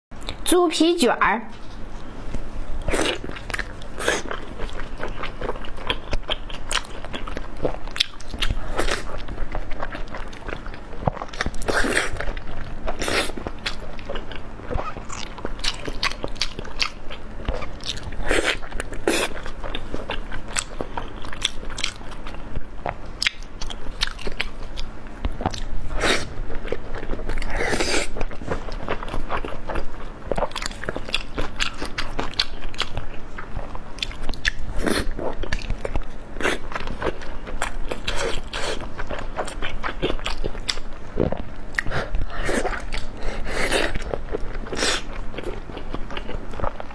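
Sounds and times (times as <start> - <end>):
crunchy chewing: 2.8 - 46.9.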